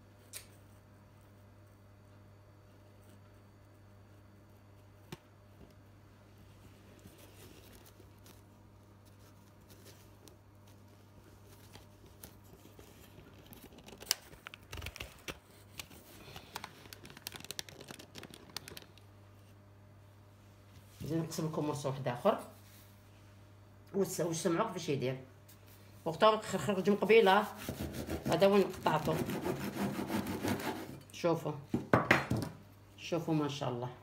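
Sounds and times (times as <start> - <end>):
steady low hum: 0.0 - 31.7.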